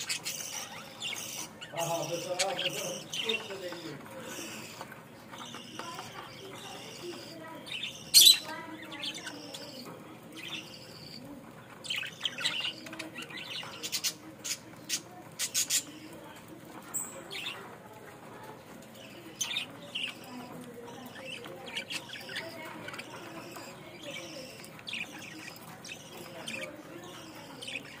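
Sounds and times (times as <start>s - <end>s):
budgerigars chattering and chirping: 0.0s - 28.0s.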